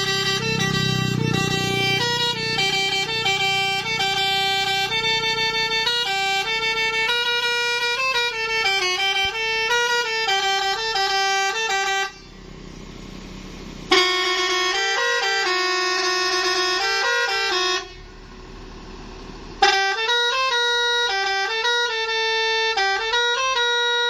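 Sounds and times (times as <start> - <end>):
bus air horn melody: 0.0 - 18.2, 19.6 - 24.0.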